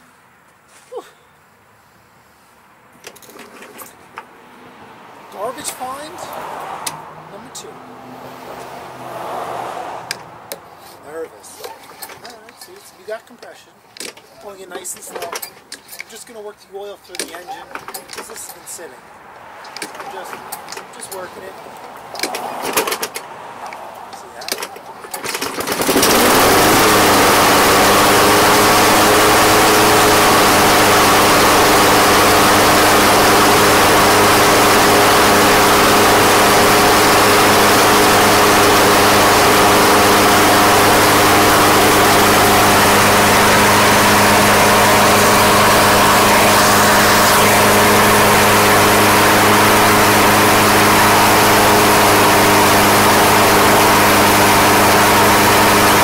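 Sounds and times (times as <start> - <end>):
lawnmower engine starting and running: 3.0 - 4.4, 5.3 - 7.5, 8.4 - 16.4, 17.1 - 18.9, 19.5 - 56.0.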